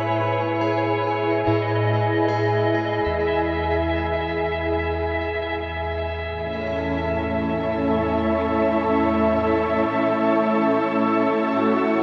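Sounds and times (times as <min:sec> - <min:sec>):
ambient guitar drone: 0:00.0 - 0:12.0.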